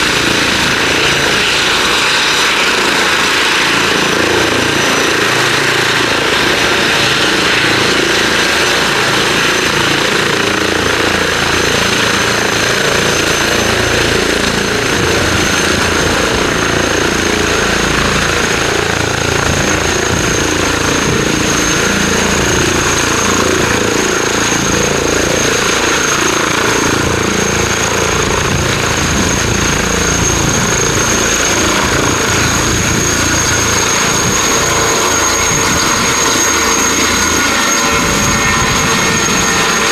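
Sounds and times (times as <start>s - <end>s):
helicopter running: 0.0s - 39.9s
high turbine whine: 0.0s - 39.9s.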